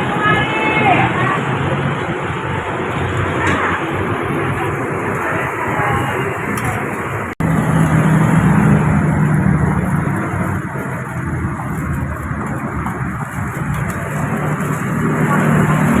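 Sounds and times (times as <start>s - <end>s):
low engine hum: 0.0s - 16.0s
road traffic rumble: 0.0s - 16.0s.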